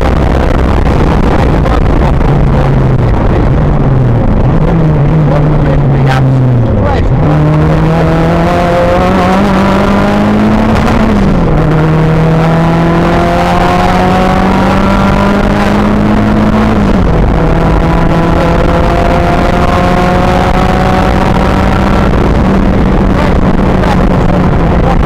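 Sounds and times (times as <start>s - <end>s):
rally car engine accelerating: 0.0s - 25.0s.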